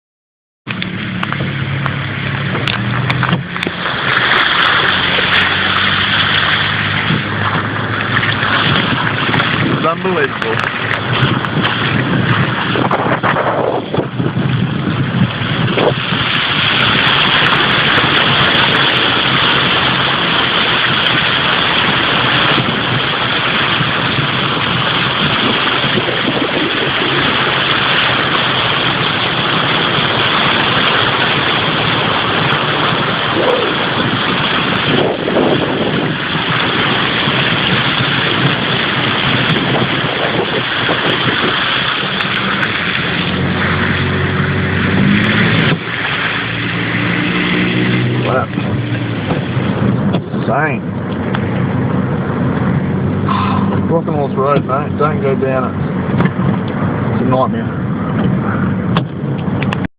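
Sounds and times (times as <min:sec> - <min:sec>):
car engine running: 0:00.7 - 0:59.9
tyres hissing on wet road: 0:00.8 - 0:12.8, 0:15.1 - 0:56.1.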